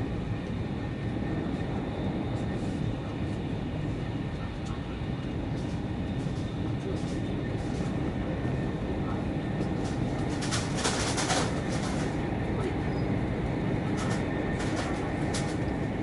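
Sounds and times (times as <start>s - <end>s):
train cabin low rumble: 0.0s - 16.0s.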